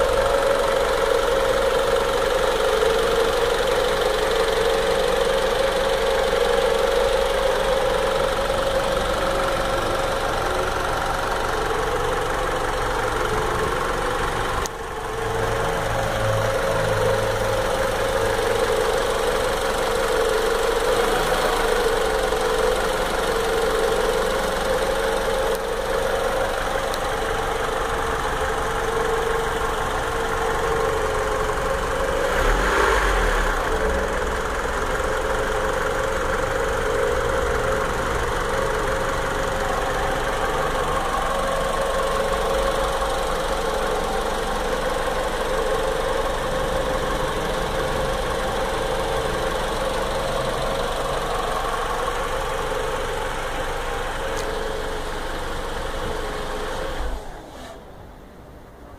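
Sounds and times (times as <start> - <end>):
car engine idling: 0.0 - 58.9.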